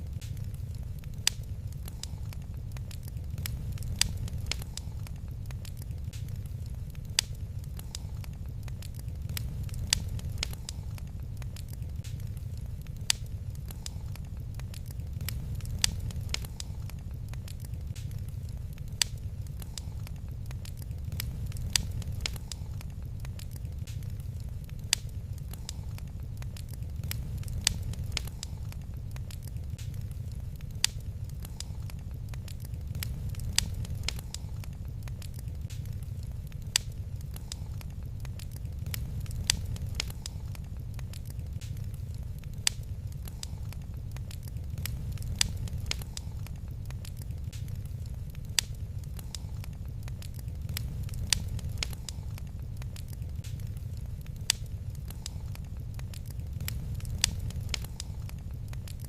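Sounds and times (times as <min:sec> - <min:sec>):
sharp pops of fire: 0:00.0 - 0:59.0
steady low rumble: 0:00.0 - 0:59.0
wood fire crackling: 0:00.0 - 0:59.0.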